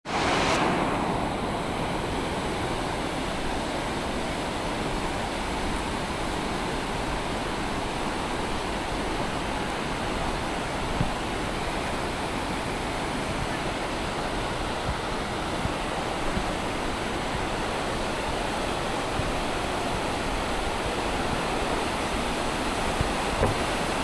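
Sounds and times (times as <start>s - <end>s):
river rapids roaring: 0.1s - 24.0s.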